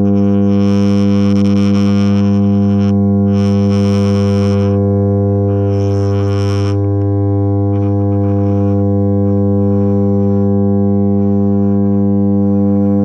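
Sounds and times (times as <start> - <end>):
electronic keyboard low drone: 0.0 - 13.0.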